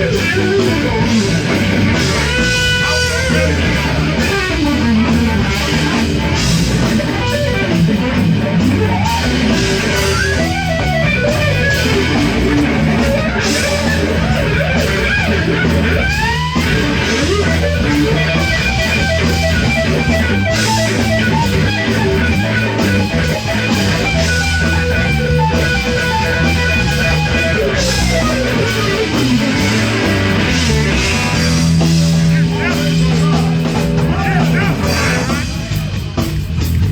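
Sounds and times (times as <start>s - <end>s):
bass line: 0.0s - 36.9s
electric guitar: 0.0s - 36.9s.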